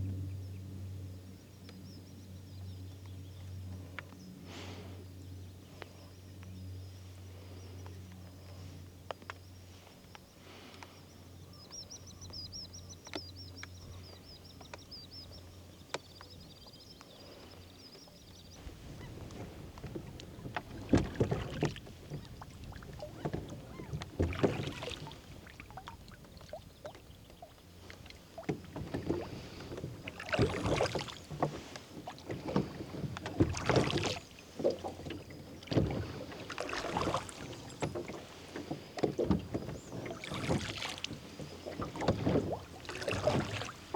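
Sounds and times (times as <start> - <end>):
oars pulling through water: 0.0 - 43.9.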